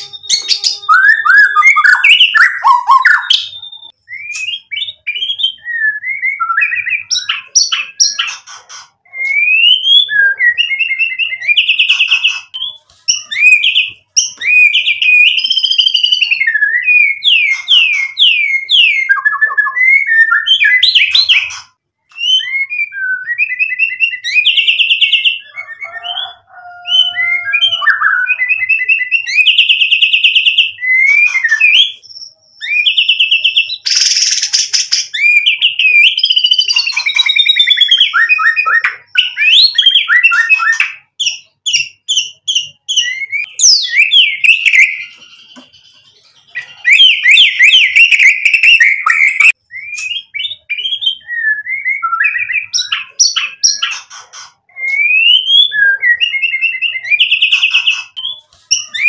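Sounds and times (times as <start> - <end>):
songbird singing whistles and trills: 0.0 - 59.0.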